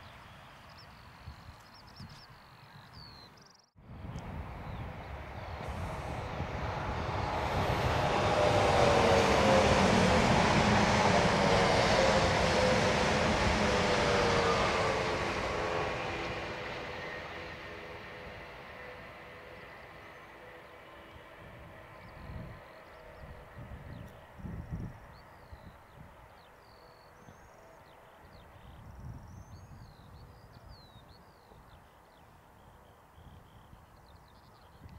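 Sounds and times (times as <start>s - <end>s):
electric train passing at speed: 3.8s - 33.1s.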